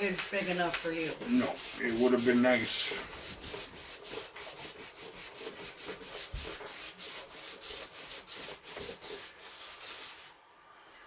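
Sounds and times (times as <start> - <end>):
hand tool rubbing on car body: 0.0 - 10.3.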